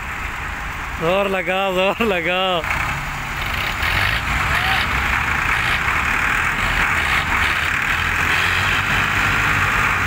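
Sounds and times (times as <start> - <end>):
diesel tractor engines under load: 0.0 - 10.0.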